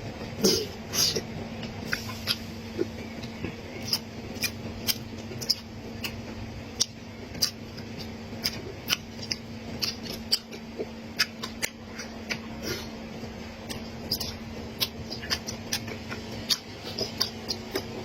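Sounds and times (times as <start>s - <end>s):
mouth clicks and smacks: 1.0s - 12.9s, 13.6s - 18.0s
chewing: 1.1s - 13.0s, 13.6s - 18.0s.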